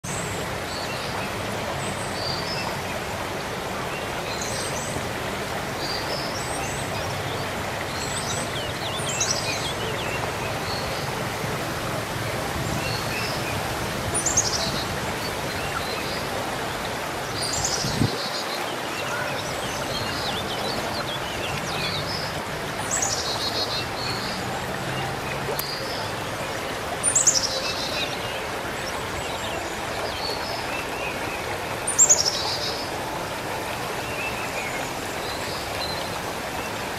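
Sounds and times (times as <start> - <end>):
outdoor background noise: 0.0 - 36.9.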